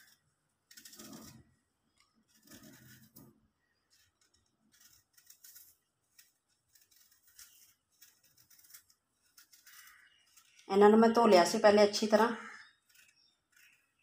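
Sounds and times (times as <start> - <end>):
knife scraping apple skin: 0.0 - 11.0, 12.5 - 14.0.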